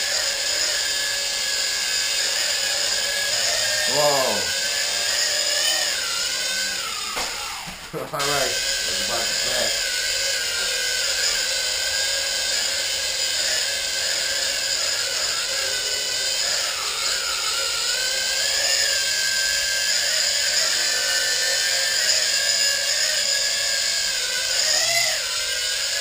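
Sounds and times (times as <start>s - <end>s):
toy drone propellers whining: 0.0s - 26.0s.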